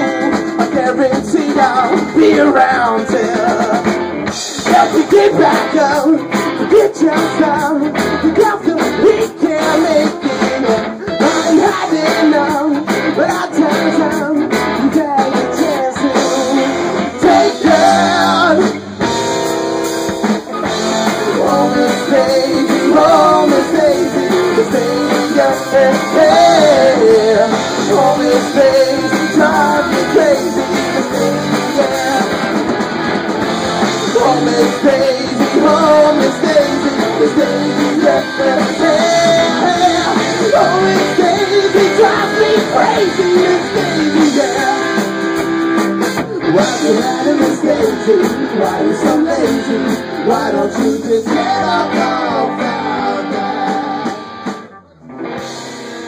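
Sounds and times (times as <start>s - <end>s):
drum kit: 0.0s - 56.0s
electric guitars: 0.0s - 56.0s
live rock band playing: 0.0s - 56.0s.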